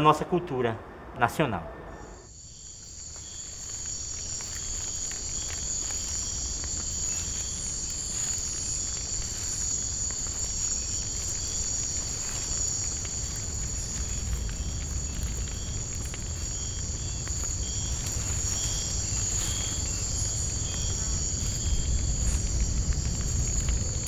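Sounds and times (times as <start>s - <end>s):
night insects trilling: 1.9s - 24.0s.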